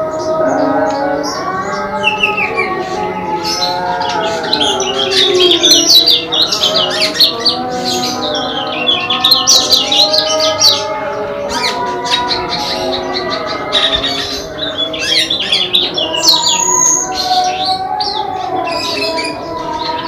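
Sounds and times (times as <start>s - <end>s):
songbirds chirping and twittering: 0.0s - 20.0s.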